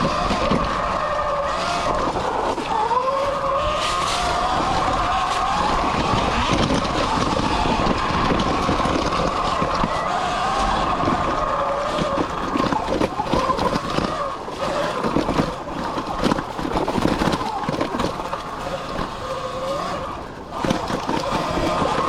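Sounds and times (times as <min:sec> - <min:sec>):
bike rattling over rough ground: 0:00.0 - 0:22.0
electric dirt bike motor whining: 0:00.0 - 0:22.0
wind on microphone: 0:00.0 - 0:22.0.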